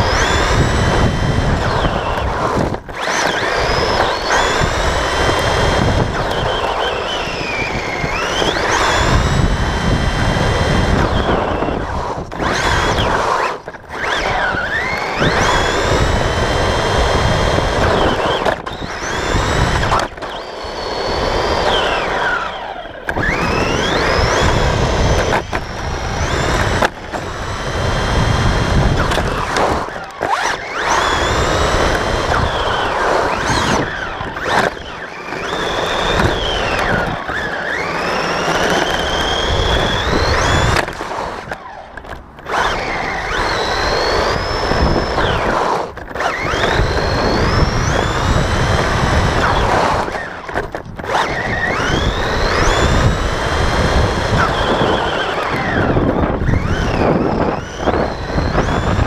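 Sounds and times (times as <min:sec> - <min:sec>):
electric motor whine: 0:00.0 - 0:59.0
tyres rumbling on asphalt: 0:00.0 - 0:59.0.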